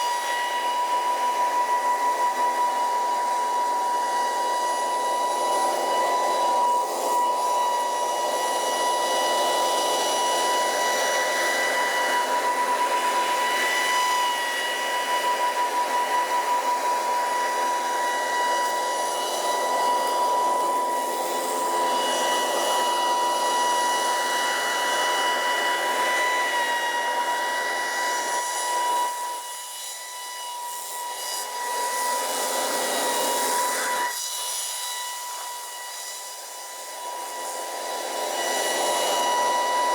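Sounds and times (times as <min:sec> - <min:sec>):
leaf blower running: 0:00.0 - 0:29.2, 0:36.7 - 0:39.9.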